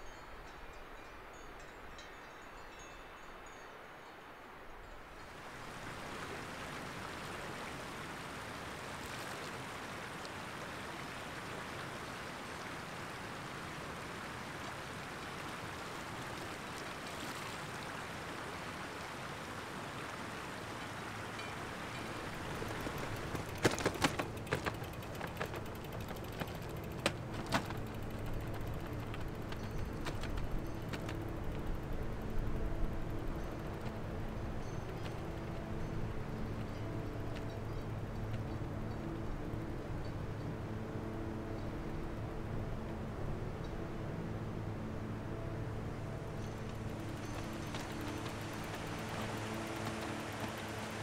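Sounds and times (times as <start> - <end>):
mountain stream rushing: 0.0 - 38.3, 39.0 - 51.0.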